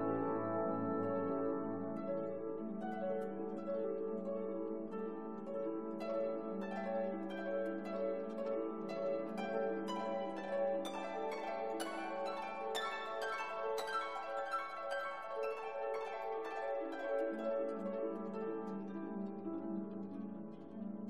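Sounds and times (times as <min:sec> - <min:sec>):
plucked notes: 0:00.0 - 0:21.0.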